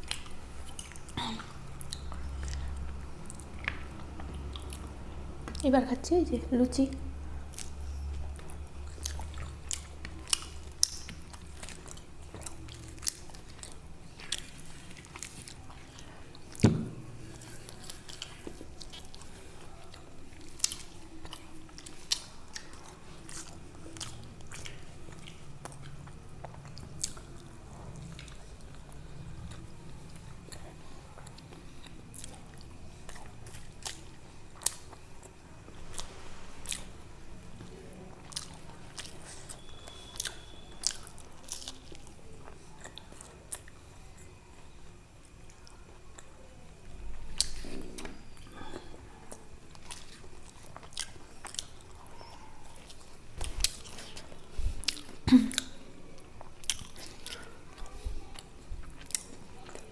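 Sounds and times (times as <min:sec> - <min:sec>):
chewing flatbread: 0:00.0 - 0:05.8, 0:06.9 - 0:59.9.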